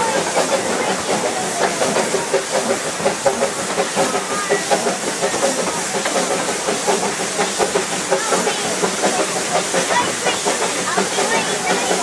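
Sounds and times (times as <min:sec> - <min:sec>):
steam hissing: 0:00.0 - 0:12.0
steam locomotive exhaust chuffs: 0:00.0 - 0:12.0
train wheels clattering on track: 0:00.0 - 0:12.0.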